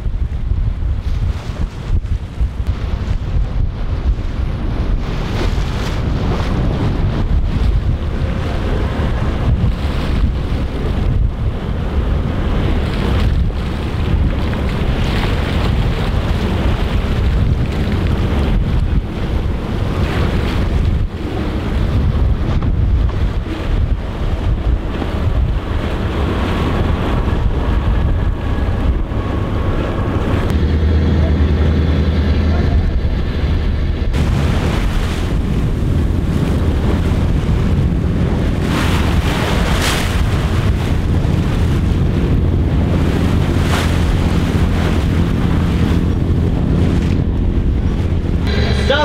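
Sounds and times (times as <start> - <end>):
rushing water: 0.0 - 49.0
wind buffeting microphone: 0.0 - 49.0
steady low engine hum: 5.9 - 49.0.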